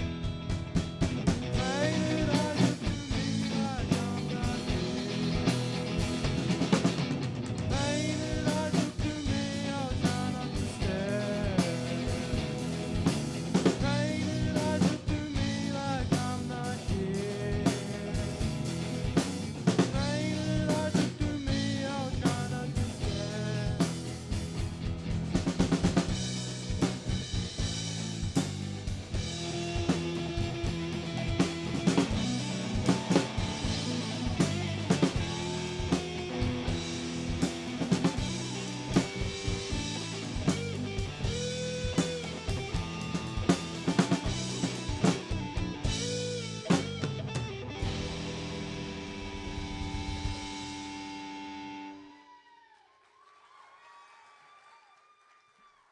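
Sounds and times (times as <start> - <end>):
bending bass notes: 0.0 - 51.8
band playing live: 0.0 - 52.3.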